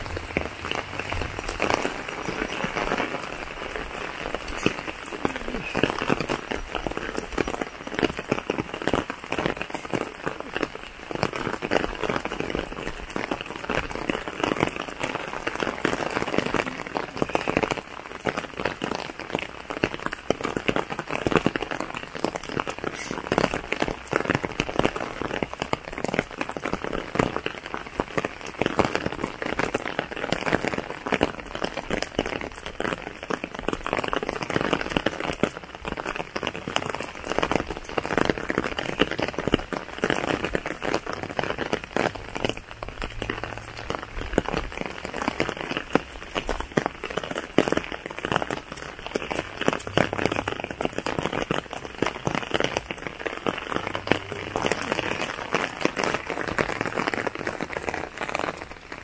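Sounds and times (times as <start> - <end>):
sharp raindrop hits: 0.0 - 59.0
steady rain falling: 0.0 - 59.0.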